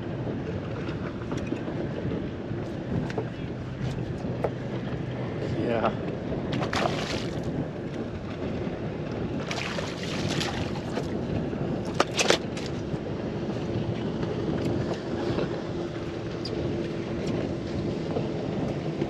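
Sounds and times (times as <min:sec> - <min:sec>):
water lapping against a hull: 0:00.0 - 0:19.0
wind buffeting microphone: 0:00.0 - 0:19.0.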